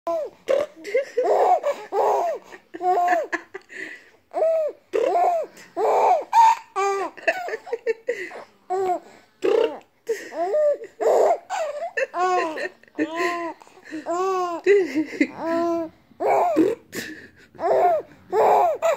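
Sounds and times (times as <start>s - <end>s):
baby laughing and cooing: 0.1s - 18.9s.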